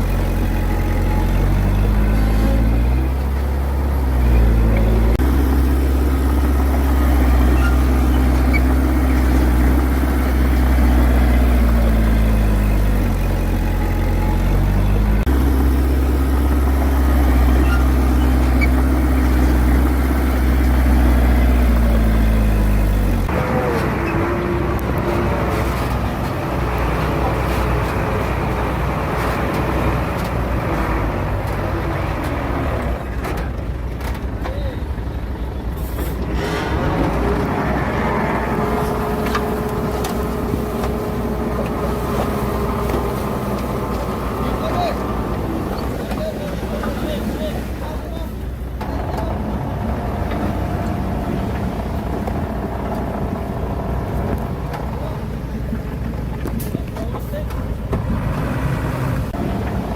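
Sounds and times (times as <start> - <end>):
heavy diesel engine running: 0.0 - 59.9
rough noisy engine: 0.0 - 59.9.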